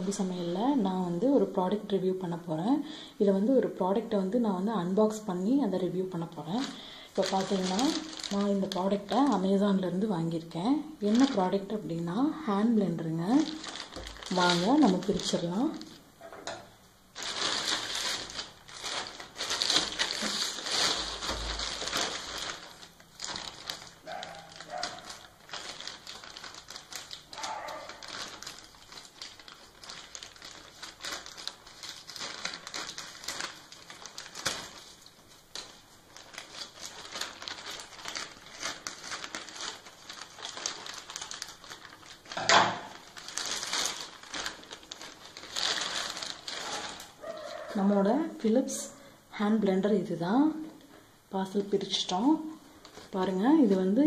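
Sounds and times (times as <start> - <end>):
plastic mailer bag crinkling: 4.3 - 16.3, 17.1 - 48.5, 51.5 - 54.0.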